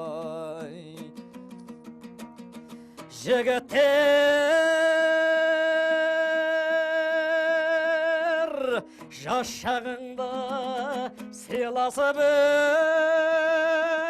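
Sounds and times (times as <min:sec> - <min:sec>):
strummed plucked strings: 0:00.0 - 0:14.0.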